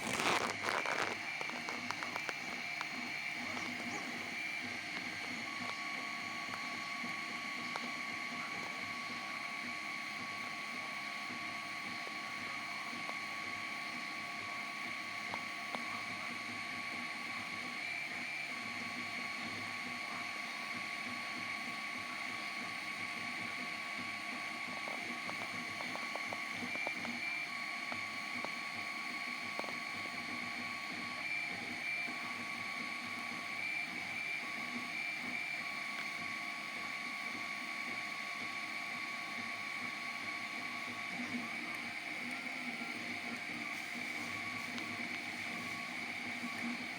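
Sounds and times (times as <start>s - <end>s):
stepper motors whining: 0.0s - 20.0s, 21.1s - 46.9s.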